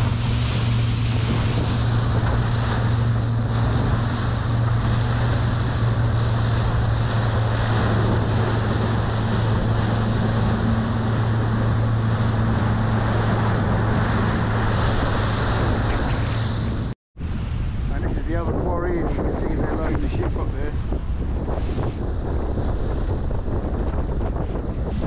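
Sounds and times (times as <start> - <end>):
motorboat engine humming: 0.0 - 25.0
water rushing along hull: 0.0 - 25.0
wind buffeting microphone: 0.0 - 25.0.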